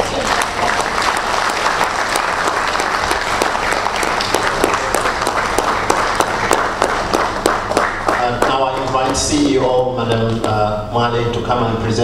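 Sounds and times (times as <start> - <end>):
audience applauding: 0.0 - 10.6
sharp individual claps: 0.1 - 10.6.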